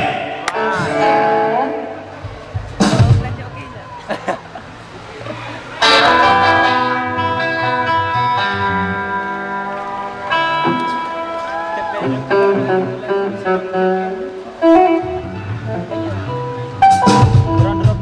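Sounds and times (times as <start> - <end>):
amplified guitar chords: 0.0 - 3.7, 5.8 - 18.0.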